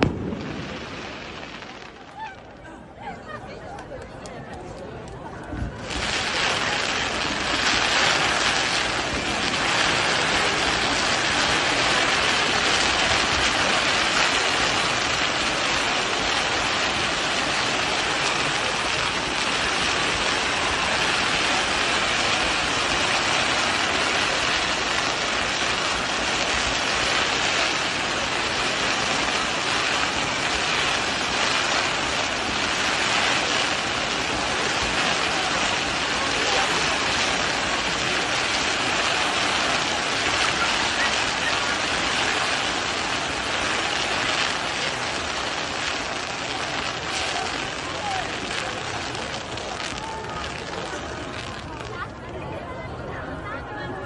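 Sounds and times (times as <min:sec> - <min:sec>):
firework fountain hissing: 0:00.0 - 0:54.0.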